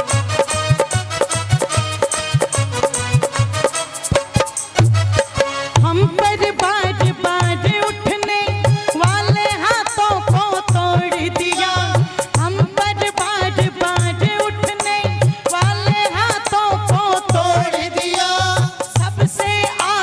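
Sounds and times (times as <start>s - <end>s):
steady hand drum beat: 0.0s - 20.0s.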